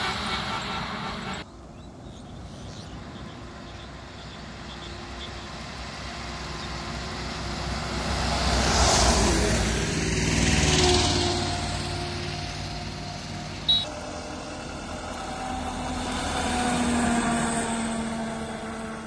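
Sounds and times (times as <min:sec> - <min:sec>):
tyres rushing on asphalt: 0:00.0 - 0:01.5, 0:03.4 - 0:19.0
truck engines running: 0:00.0 - 0:19.0.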